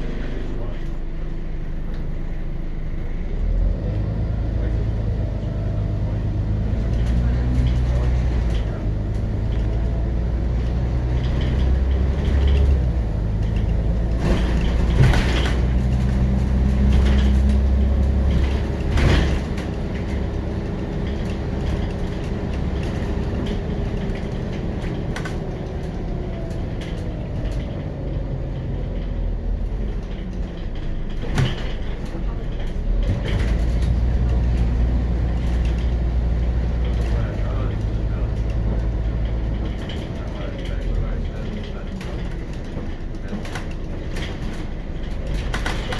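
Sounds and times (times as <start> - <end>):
bus body rattles: 0.0 - 45.9
bus diesel engine running: 0.0 - 45.9.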